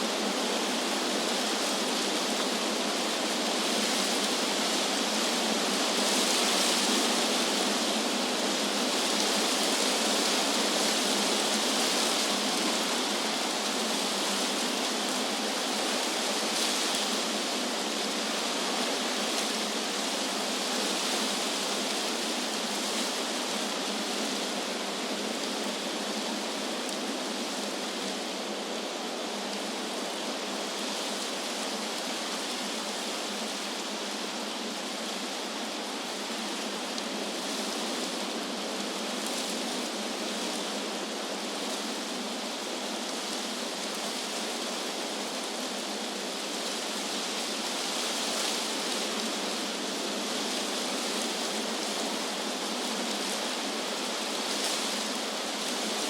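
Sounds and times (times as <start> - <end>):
wind rushing through trees: 0.0 - 56.0.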